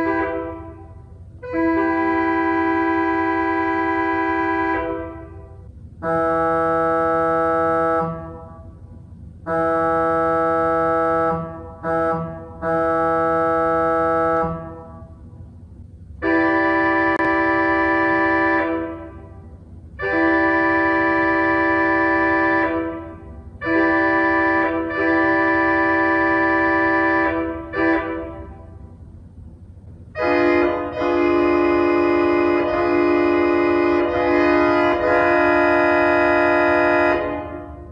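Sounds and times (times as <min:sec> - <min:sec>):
pipe organ chords like train horns: 0:00.0 - 0:37.9.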